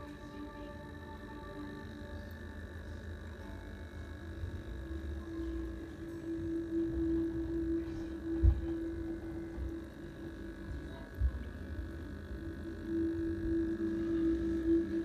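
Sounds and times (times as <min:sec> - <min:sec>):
aquarium pump humming: 0:00.0 - 0:15.0.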